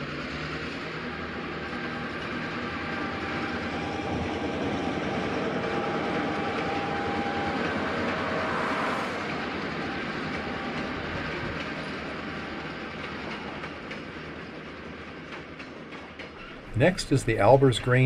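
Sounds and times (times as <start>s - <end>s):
diesel locomotive drone: 0.0s - 18.0s
wheel and rail noise: 0.0s - 18.0s.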